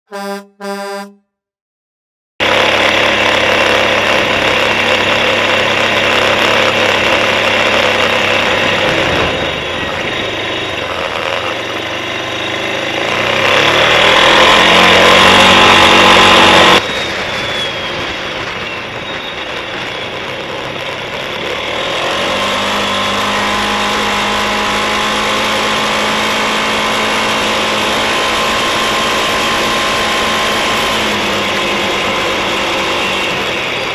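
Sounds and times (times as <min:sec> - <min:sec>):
atv engine running: 0:02.4 - 0:16.8, 0:20.1 - 0:33.9.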